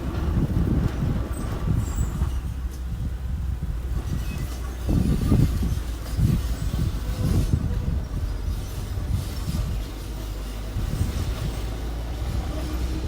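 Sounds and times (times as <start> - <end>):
heavy machinery diesel rumble: 0.0 - 13.0.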